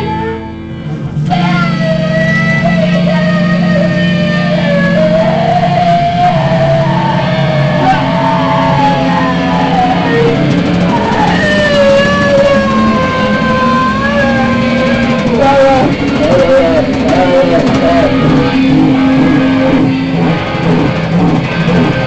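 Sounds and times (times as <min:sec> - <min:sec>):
low drone: 0:00.0 - 0:22.0
wavering instrumental tones: 0:00.0 - 0:22.0.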